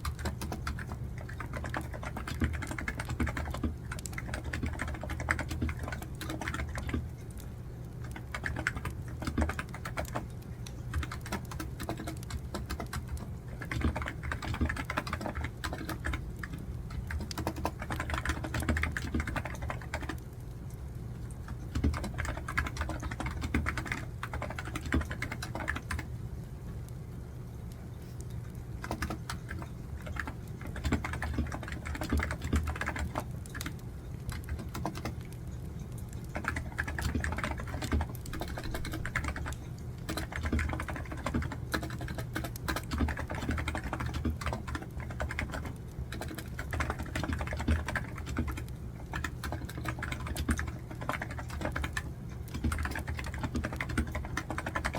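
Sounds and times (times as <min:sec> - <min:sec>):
keyboard typing: 0:00.0 - 0:20.3, 0:21.3 - 0:26.2, 0:28.2 - 0:54.9
steady low hum: 0:00.0 - 0:54.9.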